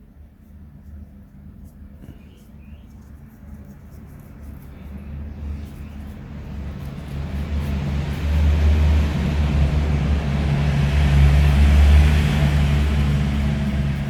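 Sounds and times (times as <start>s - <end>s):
motor running with low rumble: 0.0s - 14.0s.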